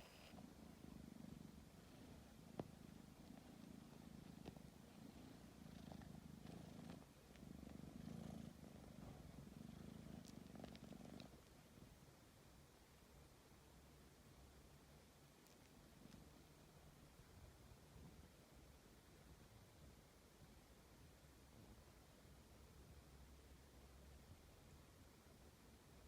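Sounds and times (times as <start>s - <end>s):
cat purring faintly: 0.0s - 26.0s.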